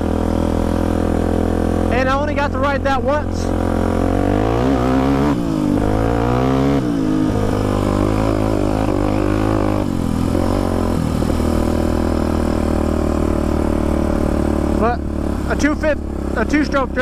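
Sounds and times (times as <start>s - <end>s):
quad engine revving: 0.0s - 17.0s.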